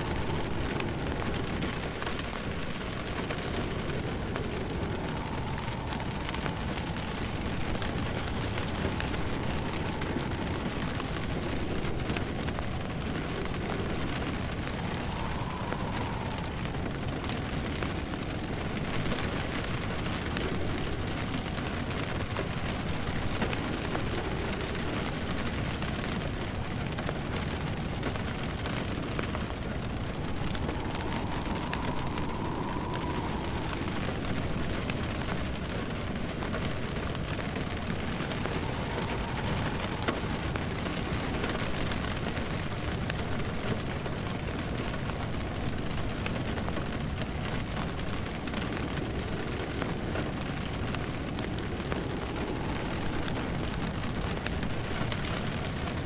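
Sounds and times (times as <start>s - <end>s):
faint rising and falling whistle: 0.0s - 21.0s, 28.1s - 45.2s, 47.8s - 56.0s
steady rain: 0.0s - 56.0s
wood fire crackling: 0.0s - 56.0s.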